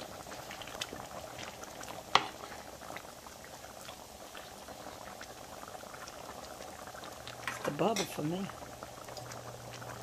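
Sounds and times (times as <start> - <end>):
gravy bubbling and popping: 0.0 - 10.0.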